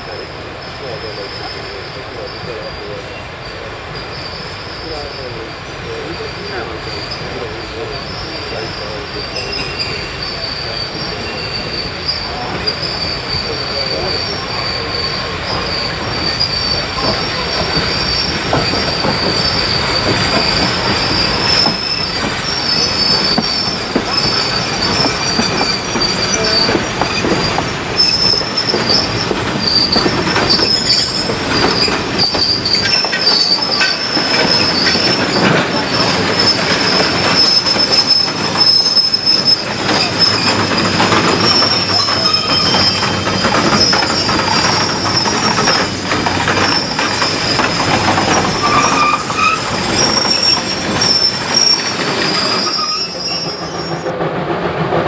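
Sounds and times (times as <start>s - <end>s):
train wheels squealing on rails: 0.0s - 54.3s
rolling rumble of rail cars: 0.0s - 55.0s.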